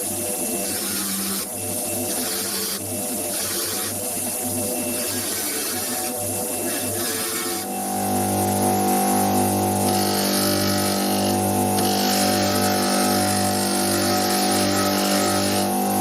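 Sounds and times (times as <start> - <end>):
electric power tool running: 0.0 - 16.0.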